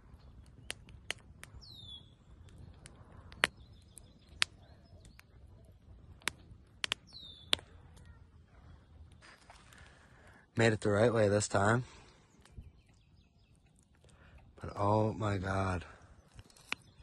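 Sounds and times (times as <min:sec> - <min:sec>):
bird chirping: 0:00.0 - 0:09.4, 0:11.9 - 0:17.0
campfire crackling: 0:00.0 - 0:17.0
fire popping: 0:00.0 - 0:17.0.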